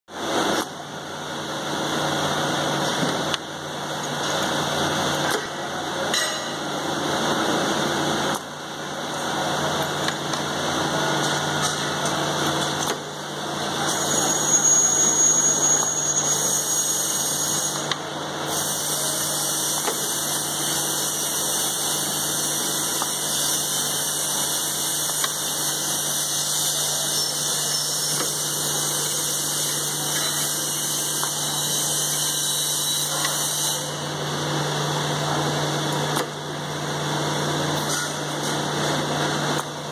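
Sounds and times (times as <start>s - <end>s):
burnishing machine running: 0.1s - 39.9s.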